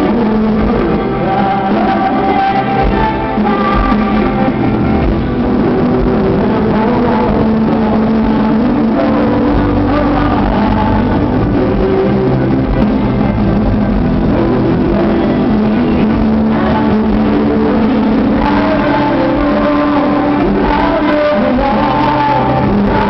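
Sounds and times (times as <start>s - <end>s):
rock band playing loudly: 0.0s - 23.0s.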